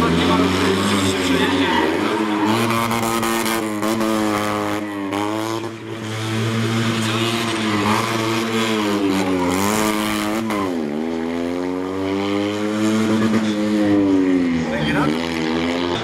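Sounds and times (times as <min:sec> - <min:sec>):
rally car engine revving hard: 0:00.0 - 0:16.0.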